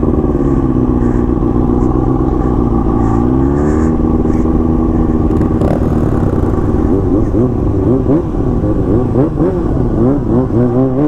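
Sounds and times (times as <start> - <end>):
motorcycle engine running loudly: 0.0 - 11.0.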